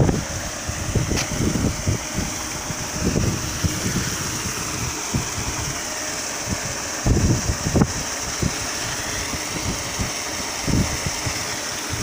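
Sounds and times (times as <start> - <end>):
aerator motor humming: 0.0 - 12.0
wind rumble on microphone: 0.0 - 12.0.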